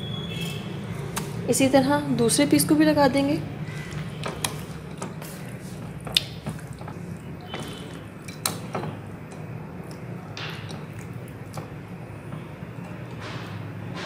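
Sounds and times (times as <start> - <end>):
wet hand mixing sounds: 2.3 - 13.7.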